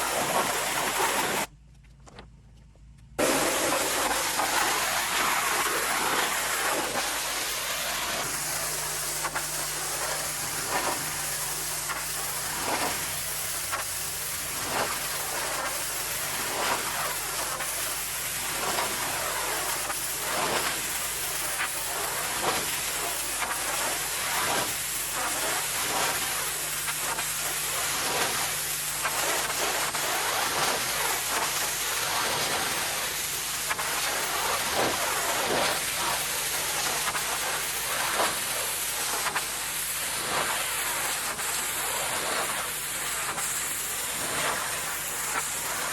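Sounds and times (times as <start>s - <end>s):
pressure washer spraying: 0.0s - 1.5s, 3.2s - 45.9s.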